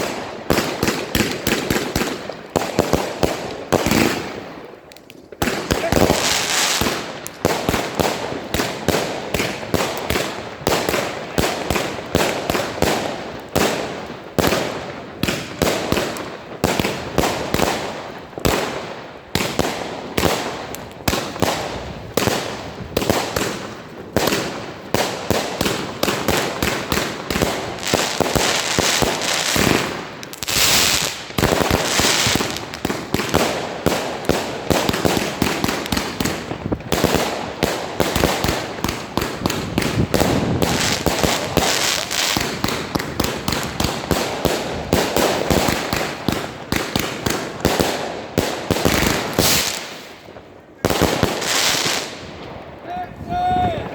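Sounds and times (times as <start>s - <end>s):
fireworks cake firing: 0.0s - 52.9s.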